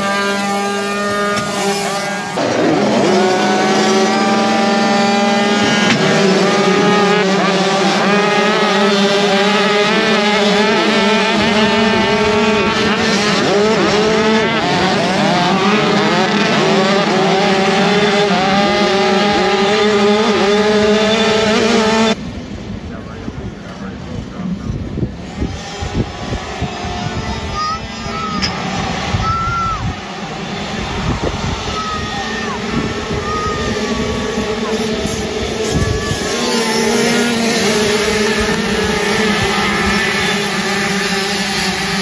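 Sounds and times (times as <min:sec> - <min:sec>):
motocross bikes revving and racing: 0:00.0 - 0:42.0.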